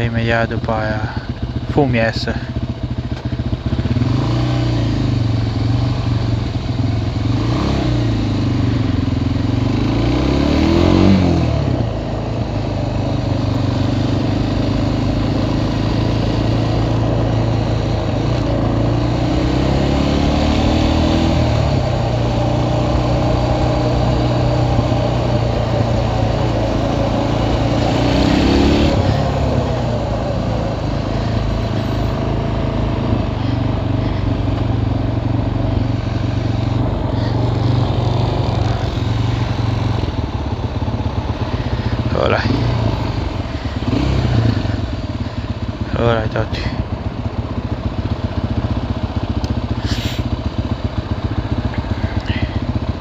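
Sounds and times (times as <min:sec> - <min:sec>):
quad bike engine revving: 0:00.7 - 0:53.0.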